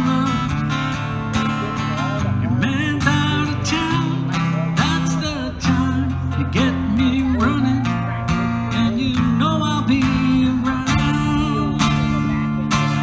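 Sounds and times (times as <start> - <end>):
acoustic guitar strumming: 0.0 - 13.0
low bass notes: 0.0 - 13.0.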